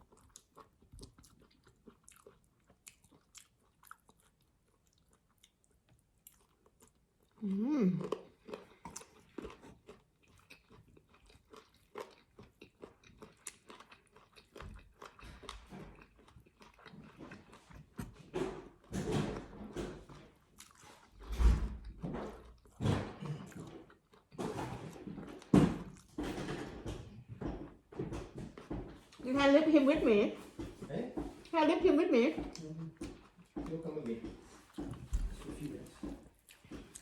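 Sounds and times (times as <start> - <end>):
person chewing crunchy food: 0.0 - 29.3, 32.4 - 37.0.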